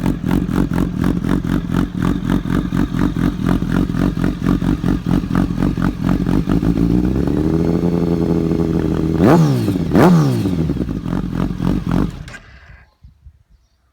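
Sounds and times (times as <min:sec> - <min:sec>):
engine throttle blips: 0:00.0 - 0:12.8
motorcycle engine idling: 0:00.0 - 0:12.8.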